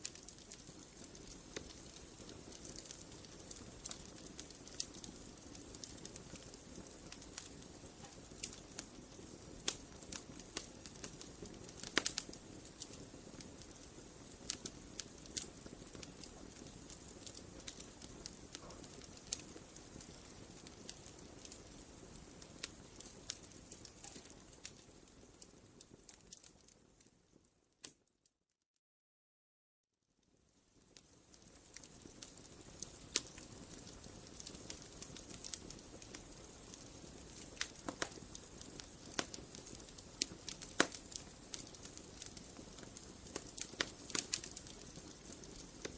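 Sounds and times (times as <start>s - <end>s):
campfire crackling and popping: 0.0s - 28.0s, 30.3s - 45.9s
low rustle of flames: 0.0s - 28.0s, 30.2s - 45.9s.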